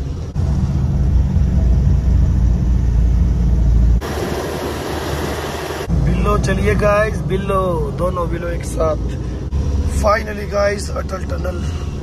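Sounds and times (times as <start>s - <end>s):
hissing road noise: 0.0s - 12.0s
truck engine rumble: 0.0s - 12.0s.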